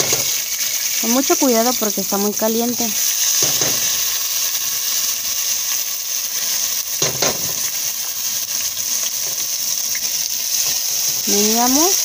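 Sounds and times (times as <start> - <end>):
rice sizzling in hot oil: 0.0 - 12.0.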